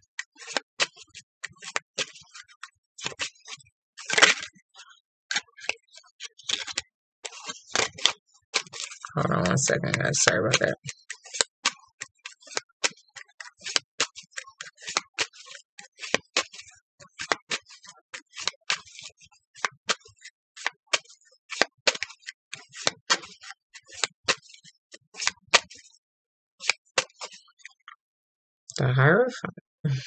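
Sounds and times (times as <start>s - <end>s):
cards being shuffled: 0.4s - 4.5s, 5.3s - 5.8s, 6.5s - 24.6s, 25.2s - 25.9s, 26.6s - 27.4s.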